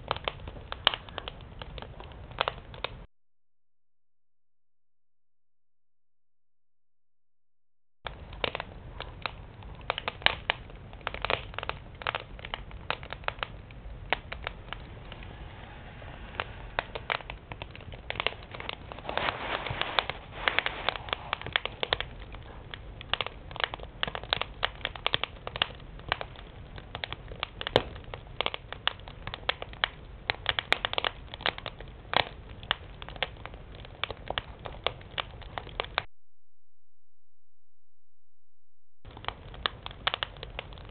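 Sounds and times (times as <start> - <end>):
wood fire crackling: 0.0 - 3.1, 8.1 - 36.1, 39.0 - 40.9.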